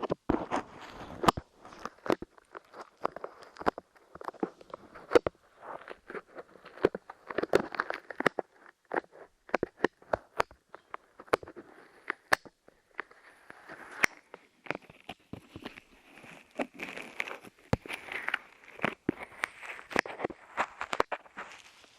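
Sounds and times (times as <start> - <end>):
clay crackling on microphone: 0.0 - 21.9.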